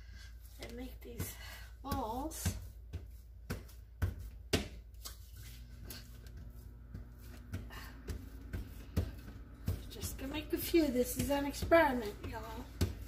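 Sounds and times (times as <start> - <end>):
low steady hum: 0.0 - 13.0
hands patting dough: 0.1 - 13.0.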